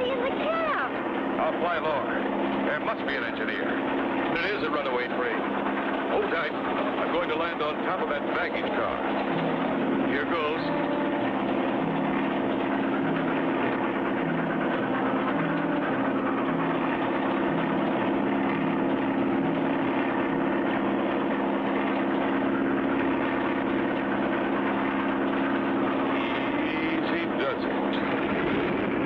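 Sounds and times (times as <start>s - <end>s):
engine drone: 0.0s - 29.0s
low regular pulse: 0.0s - 29.0s.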